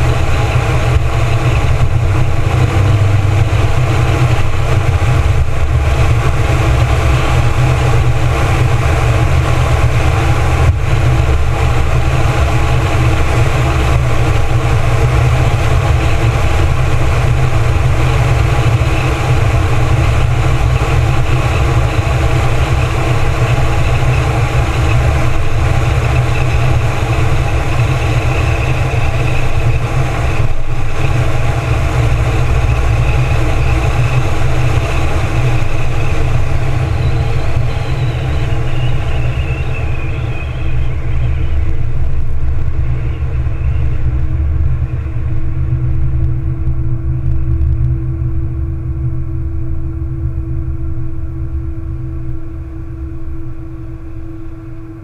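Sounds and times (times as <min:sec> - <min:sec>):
car engine cruising: 0:00.0 - 0:55.0
falling whine: 0:00.0 - 0:55.0
wind and road noise: 0:00.0 - 0:55.0.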